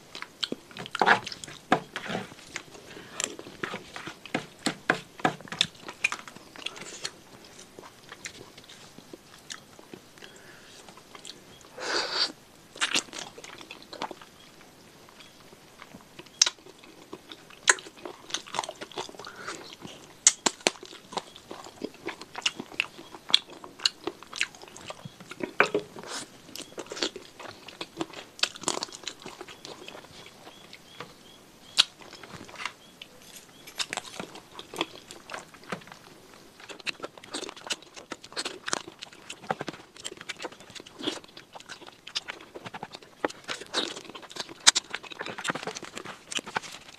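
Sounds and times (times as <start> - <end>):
crunchy chewing and biting: 0.0 - 14.4, 15.0 - 46.9.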